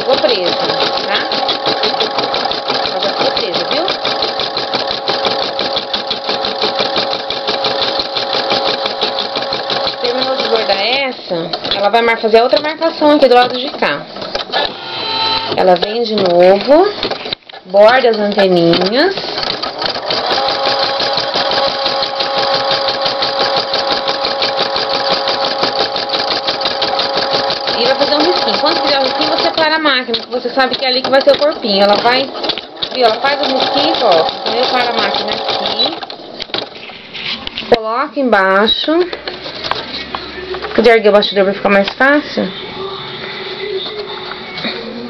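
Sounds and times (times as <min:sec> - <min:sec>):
embroidery machine stitching: 0:00.0 - 0:37.4.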